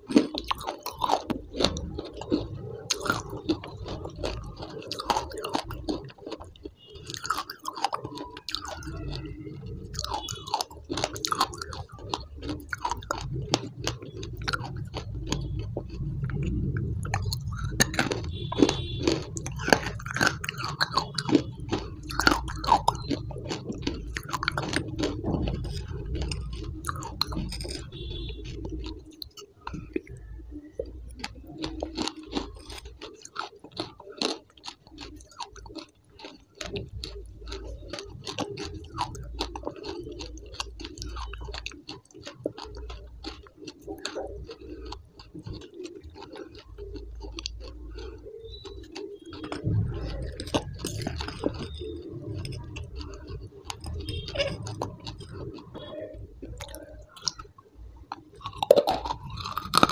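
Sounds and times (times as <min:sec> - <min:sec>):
chewing and crunching: 0:00.0 - 0:59.9
sharp wet mouth clicks: 0:07.0 - 0:59.9.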